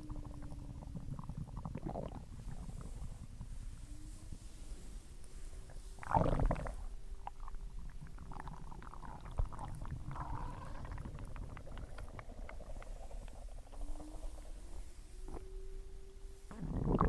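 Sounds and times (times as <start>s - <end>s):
stomach growling and gurgling: 0.0s - 3.8s, 5.7s - 15.6s, 16.5s - 17.0s.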